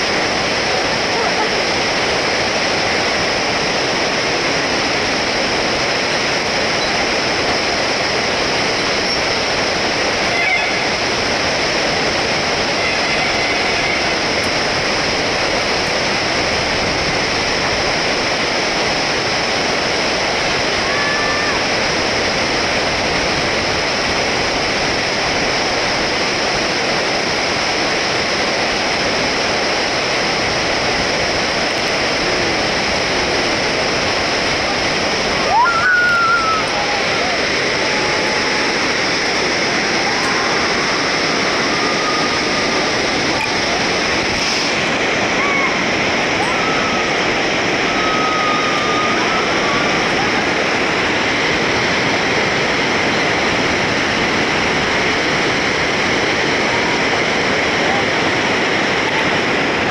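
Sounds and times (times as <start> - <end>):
fast-flowing river water: 0.0 - 59.9.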